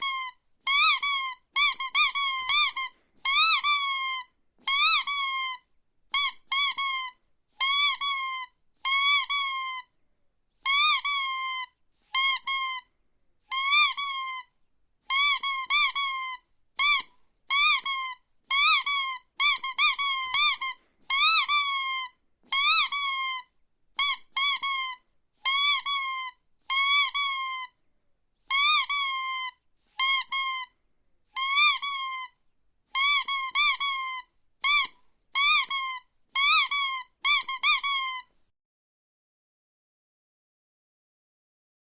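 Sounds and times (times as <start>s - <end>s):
rubber duck toy squeaking: 0.0s - 9.9s, 10.6s - 12.9s, 13.5s - 14.5s, 15.1s - 27.8s, 28.4s - 38.3s.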